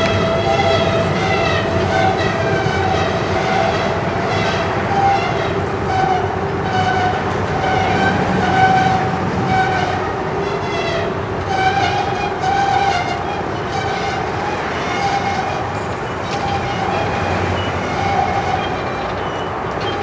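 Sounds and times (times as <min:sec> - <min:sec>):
train rumbling: 0:00.0 - 0:20.0
train wheels squealing on rails: 0:00.0 - 0:20.0.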